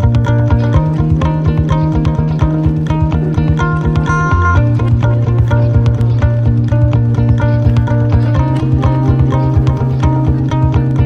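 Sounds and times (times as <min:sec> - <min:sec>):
plucked notes over bass: 0:00.0 - 0:11.0.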